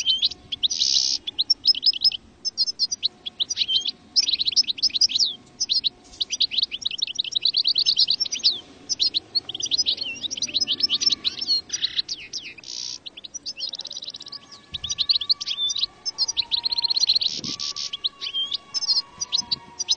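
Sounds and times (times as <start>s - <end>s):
goldfinch twittering song: 0.0s - 19.9s.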